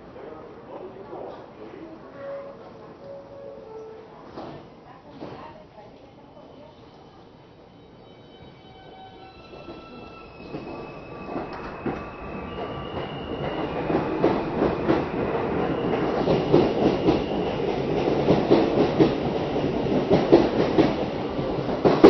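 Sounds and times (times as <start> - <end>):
subway train running noise: 0.0 - 22.0.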